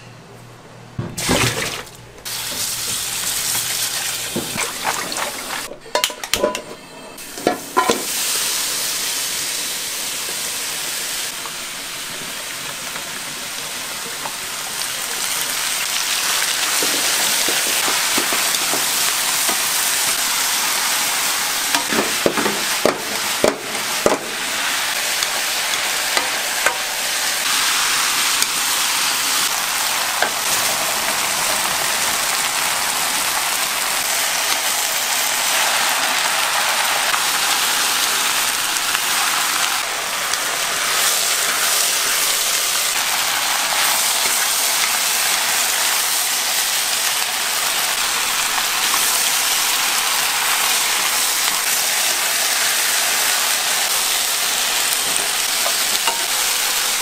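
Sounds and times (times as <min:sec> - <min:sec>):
food sizzling in a frying pan: 0:02.2 - 0:05.7, 0:07.2 - 0:57.0.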